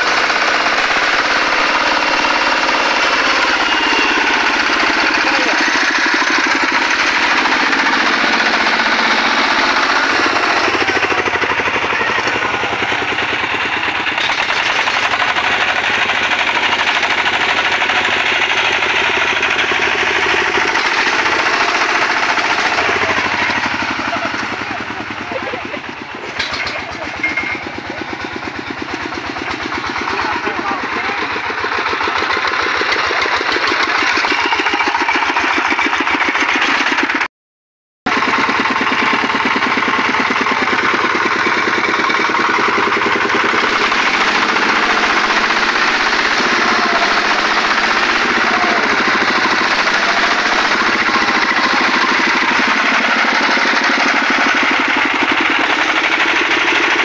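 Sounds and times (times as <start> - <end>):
diesel engine chugging: 0.0 - 37.3, 38.1 - 57.0.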